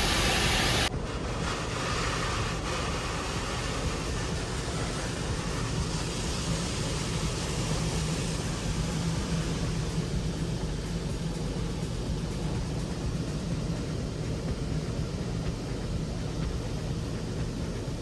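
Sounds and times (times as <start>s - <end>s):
high-pressure water spray hiss: 0.0s - 18.0s
soft rushing with low hum: 0.0s - 18.0s.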